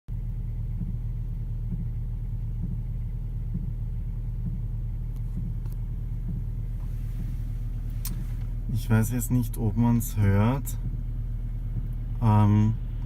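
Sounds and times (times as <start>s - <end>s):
low pulsing drone in car cabin: 0.1s - 13.0s.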